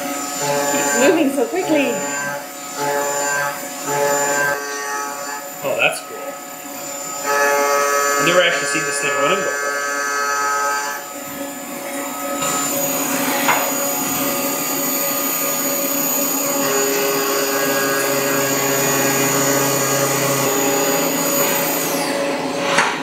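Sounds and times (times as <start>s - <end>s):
high spindle whine: 0.0s - 22.6s.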